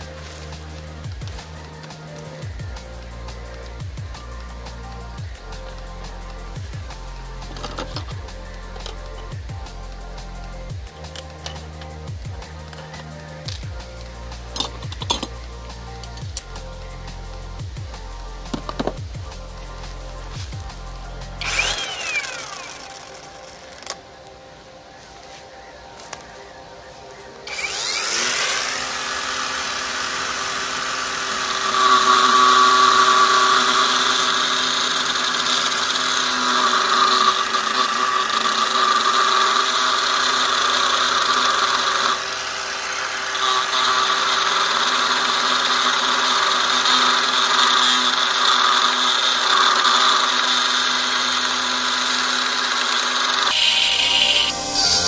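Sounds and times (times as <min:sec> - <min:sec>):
power tool cutting metal: 0:00.0 - 0:24.0, 0:27.4 - 0:55.0.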